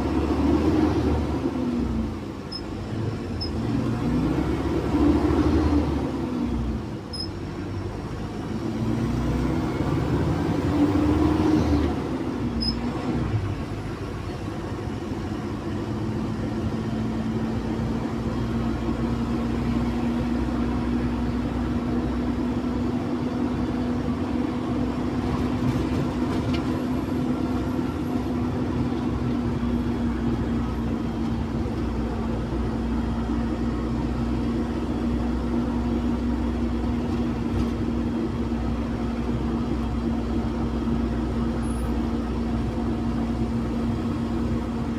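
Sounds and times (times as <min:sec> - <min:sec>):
diesel bus engine revving: 0:00.0 - 0:44.9.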